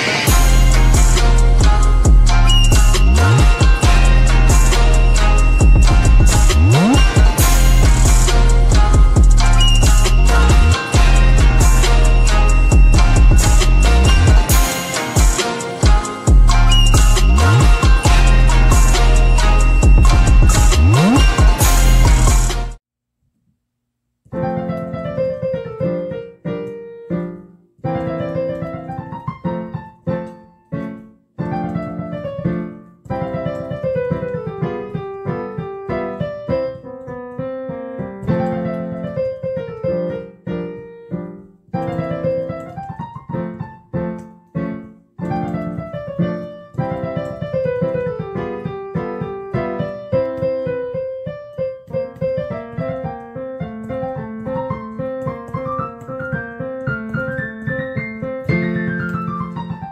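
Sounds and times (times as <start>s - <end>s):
piano music: 0.0s - 22.8s, 24.3s - 59.9s.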